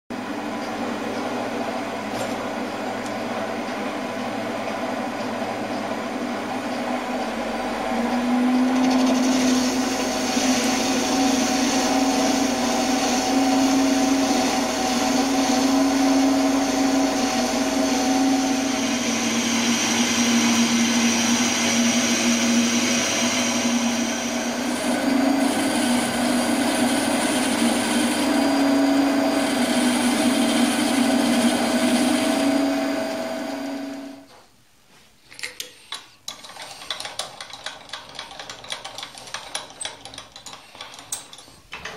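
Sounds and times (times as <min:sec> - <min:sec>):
metal lathe running: 0:00.5 - 0:34.2.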